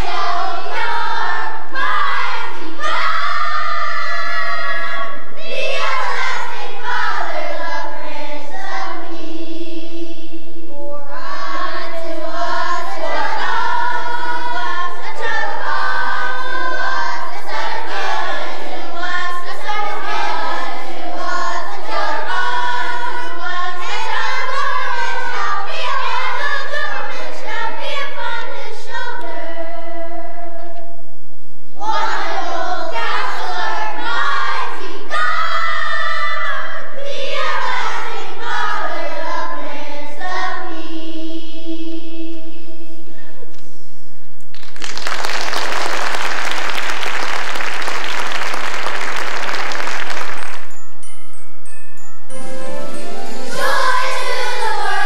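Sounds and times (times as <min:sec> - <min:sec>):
children's choir singing: 0:00.0 - 0:31.0, 0:31.8 - 0:43.8, 0:45.2 - 0:51.4, 0:52.3 - 0:55.0.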